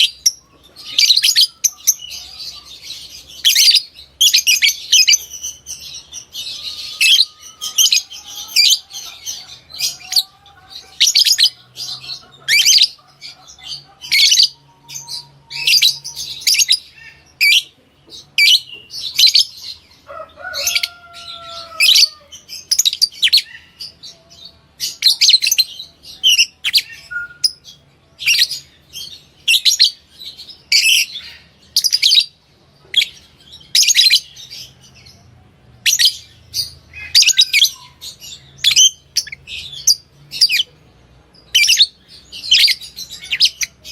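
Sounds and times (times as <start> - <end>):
lovebirds chirping: 0.0 - 43.9.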